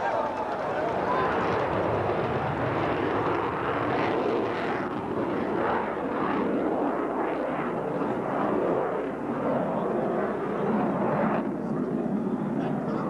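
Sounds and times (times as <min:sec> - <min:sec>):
jets flying over: 0:00.0 - 0:13.0.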